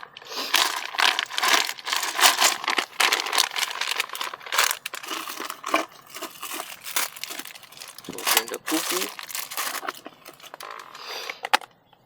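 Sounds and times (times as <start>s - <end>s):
plastic bags crinkling: 0.0s - 11.4s.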